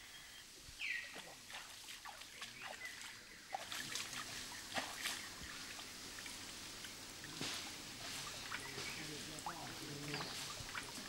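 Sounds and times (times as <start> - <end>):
water drips and trickles: 0.5 - 11.0.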